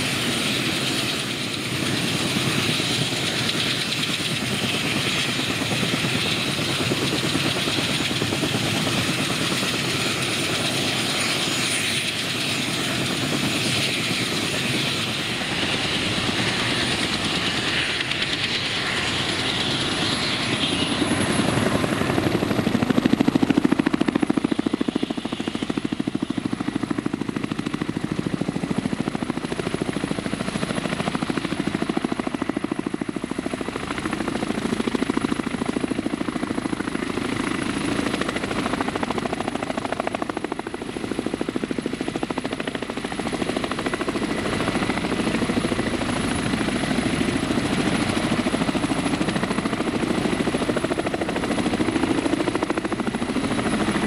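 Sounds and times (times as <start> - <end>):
helicopter engines and rotors running: 0.0 - 54.0.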